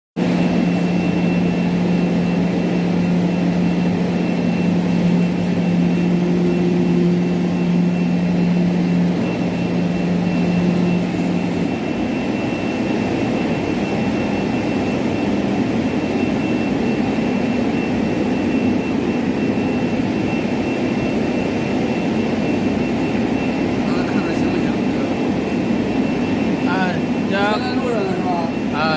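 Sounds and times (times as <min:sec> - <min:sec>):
low hum: 0:00.2 - 0:28.9
faint high steady tone: 0:00.4 - 0:25.2, 0:25.8 - 0:28.9.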